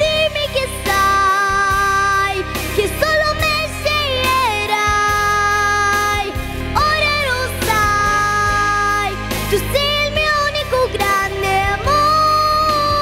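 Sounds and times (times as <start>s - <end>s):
accompanying music: 0.0s - 13.0s
girl singing: 0.0s - 13.0s.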